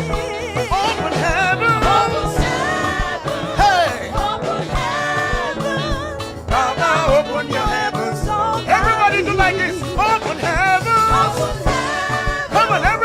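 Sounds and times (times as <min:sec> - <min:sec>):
band playing: 0:00.0 - 0:13.0
drum beat: 0:00.0 - 0:13.0
gospel choir singing: 0:00.0 - 0:13.0.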